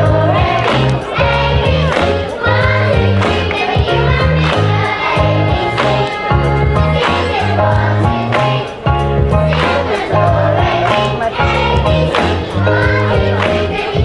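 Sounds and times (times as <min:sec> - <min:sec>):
choir singing: 0:00.0 - 0:08.8, 0:09.4 - 0:14.0
amplified backing music: 0:00.0 - 0:14.0.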